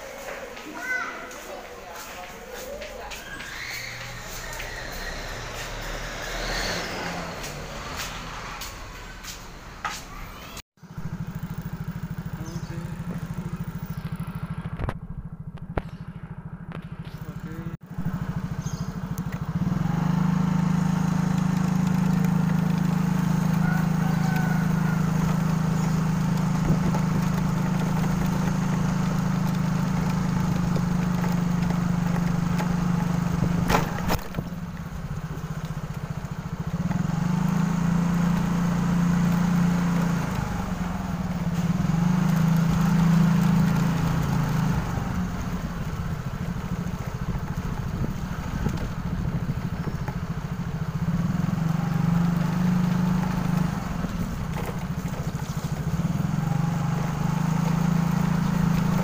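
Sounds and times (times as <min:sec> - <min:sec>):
motorcycle engine drone: 0:02.7 - 0:59.0.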